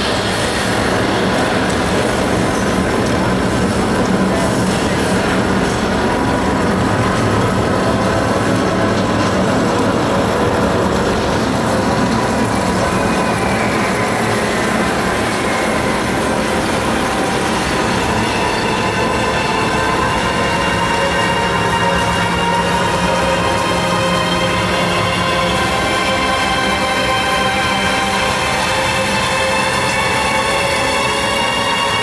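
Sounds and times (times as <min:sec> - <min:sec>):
train-like rumbling clatter: 0:00.0 - 0:32.0.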